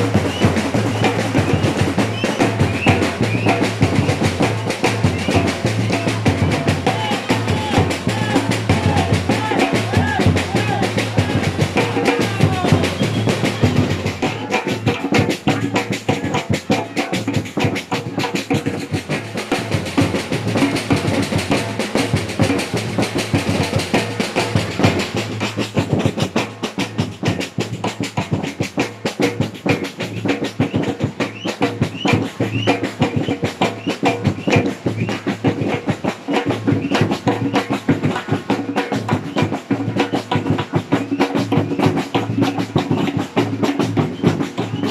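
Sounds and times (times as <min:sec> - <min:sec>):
percussion ensemble drumming: 0:00.0 - 0:44.9.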